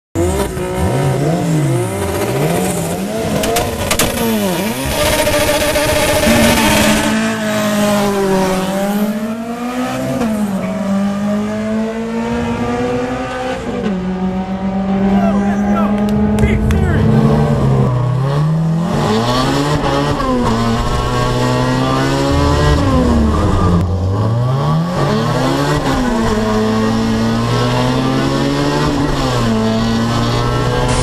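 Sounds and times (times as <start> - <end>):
car engine revving: 0.2 - 31.0.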